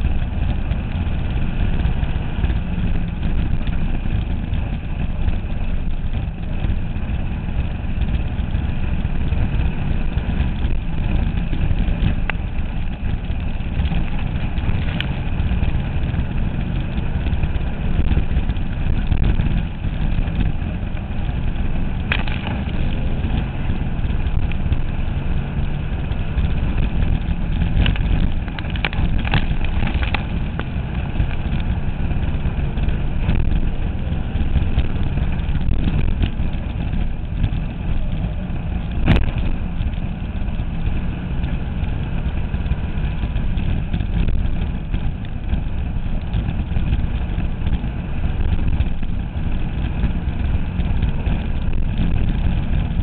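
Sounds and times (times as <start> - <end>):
race car engine at low revs: 0.0 - 53.0.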